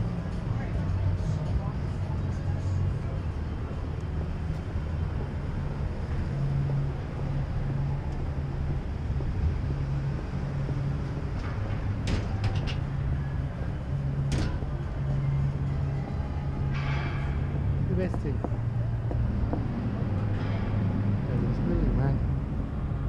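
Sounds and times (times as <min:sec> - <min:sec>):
traffic engine hum: 0:00.0 - 0:23.0.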